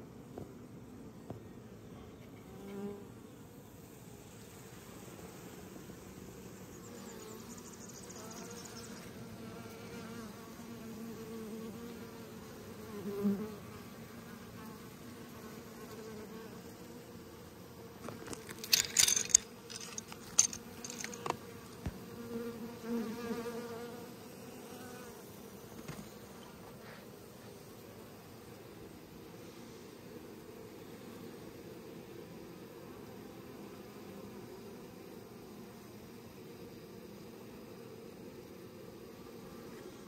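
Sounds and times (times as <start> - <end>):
bee passing close: 3.8 - 40.0
bees buzzing: 4.2 - 40.0.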